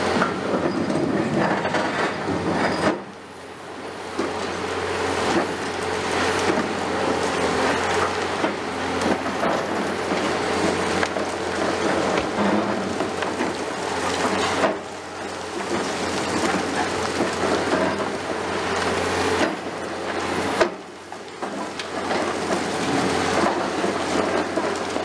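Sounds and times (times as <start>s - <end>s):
excavator diesel engine running: 0.0s - 25.0s
concrete crushing and crackling: 4.1s - 25.0s.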